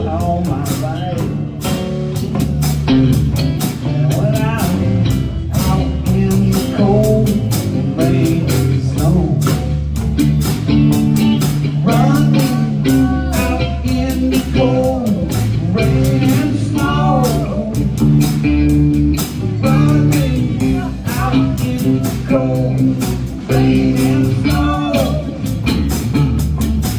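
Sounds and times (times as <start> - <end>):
bass guitar: 0.0 - 26.9
drum kit beat: 0.0 - 26.9
electric guitar lead: 0.0 - 26.9.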